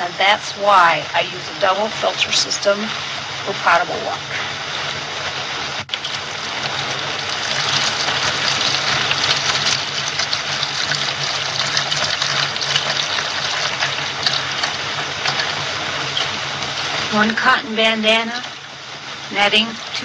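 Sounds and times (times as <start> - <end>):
low steady hum: 0.0 - 20.0
water running and splashing: 0.0 - 20.0.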